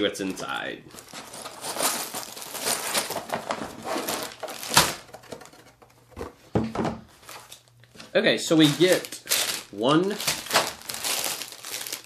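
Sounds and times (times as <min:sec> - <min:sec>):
plastic bags rustling: 0:00.0 - 0:05.6, 0:07.1 - 0:12.0.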